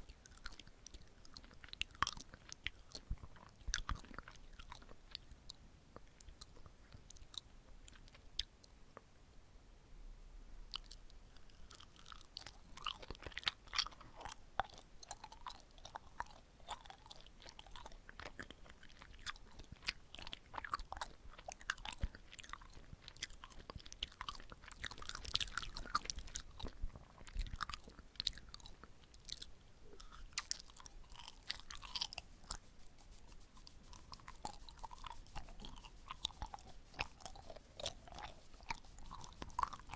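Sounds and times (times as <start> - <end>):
sticky chewing mouth sounds: 0.0 - 8.6, 11.7 - 39.9.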